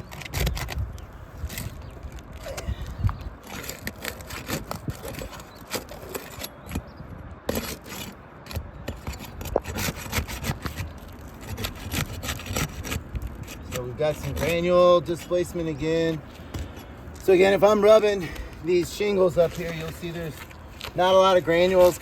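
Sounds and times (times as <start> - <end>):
roof shingles tearing and cracking: 0.0 - 6.8, 7.5 - 14.8, 17.2 - 22.0.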